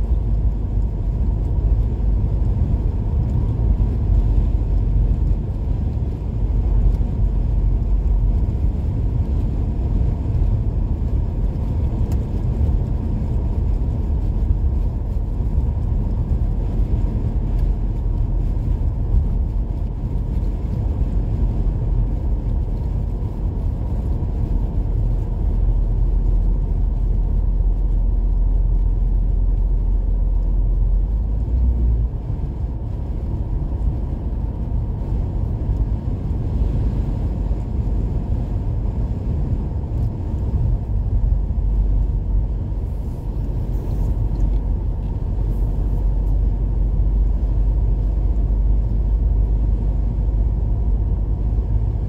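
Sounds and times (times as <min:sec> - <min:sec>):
car interior road rumble: 0:00.0 - 0:52.0.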